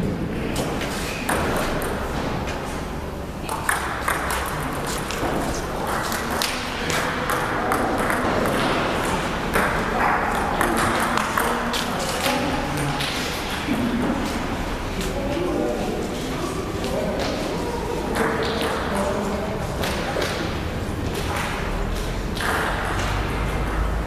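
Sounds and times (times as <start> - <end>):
background noise: 0.0 - 24.0.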